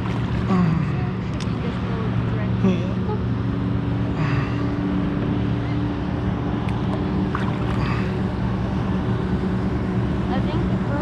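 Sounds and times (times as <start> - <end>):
distant boat engine drone: 0.0 - 11.0
water: 0.0 - 11.0
wind: 0.0 - 11.0.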